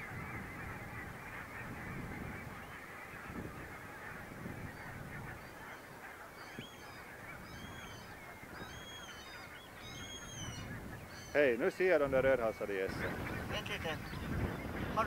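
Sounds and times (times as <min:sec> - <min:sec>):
flock of geese honking: 0:00.0 - 0:15.0.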